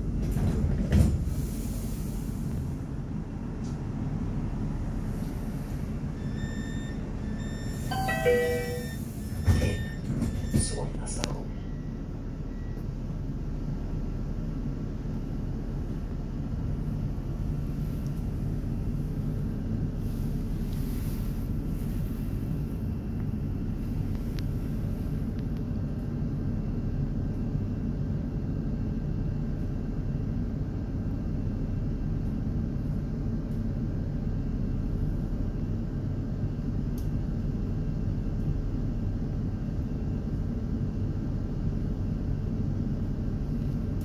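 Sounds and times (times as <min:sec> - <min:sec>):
tram cabin hum and rumble: 0:00.0 - 0:44.0.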